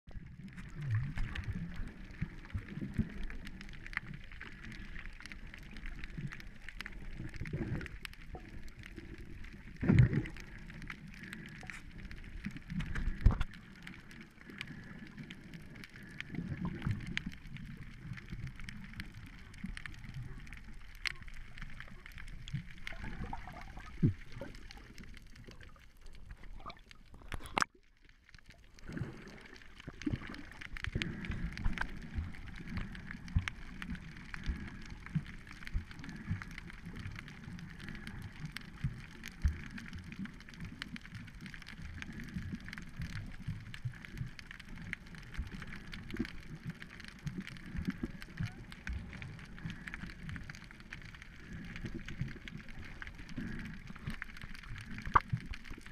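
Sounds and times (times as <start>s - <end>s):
muffled underwater water rush: 0.1s - 55.9s.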